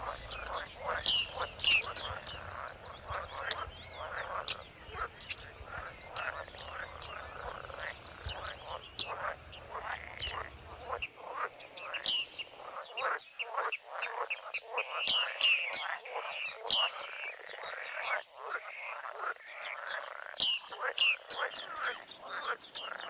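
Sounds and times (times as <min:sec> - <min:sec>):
chorus of birds chirping: 0:00.0 - 0:23.0.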